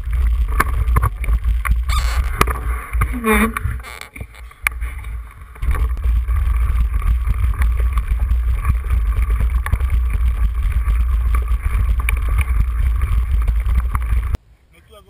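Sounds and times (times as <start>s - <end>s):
small clicks and rattles: 0.0s - 14.4s
wind buffeting microphone: 0.0s - 14.4s.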